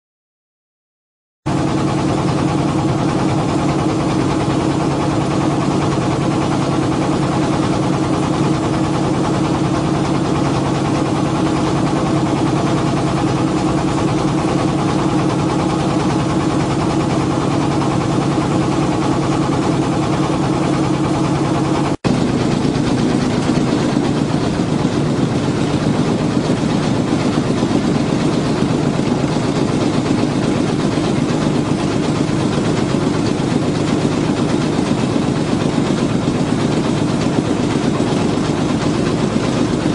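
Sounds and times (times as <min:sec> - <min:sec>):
boat engine running: 0:01.5 - 0:39.9.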